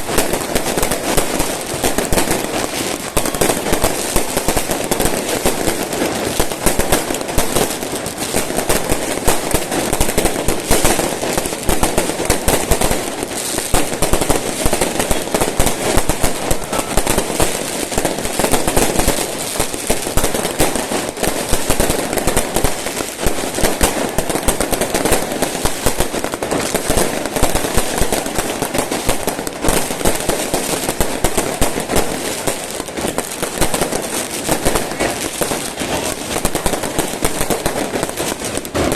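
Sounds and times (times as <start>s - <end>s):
fireworks crackling bangs: 0.0s - 38.9s.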